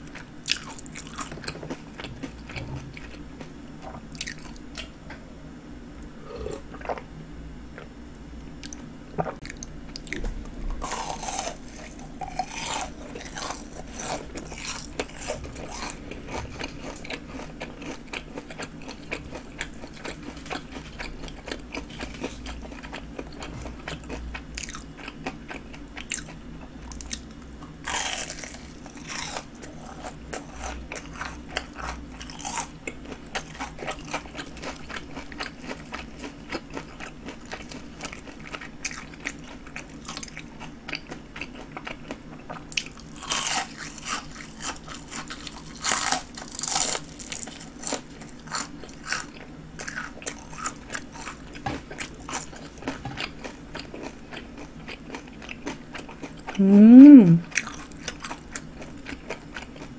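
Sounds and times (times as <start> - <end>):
crunching fried shrimp: 0.1 - 4.9, 8.6 - 56.6, 57.5 - 59.9.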